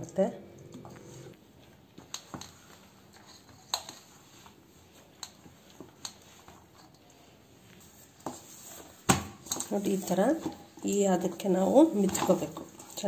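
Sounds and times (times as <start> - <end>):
hand kneading dough: 0.9 - 13.0.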